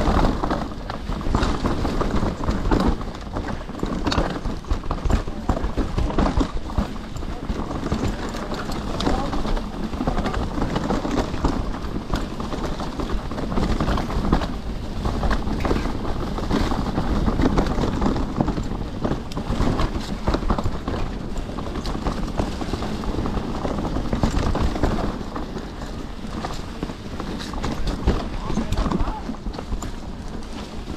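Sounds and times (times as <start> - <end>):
bike clattering and knocking: 0.0 - 30.9
bike tyres rumbling over ground: 0.0 - 30.9.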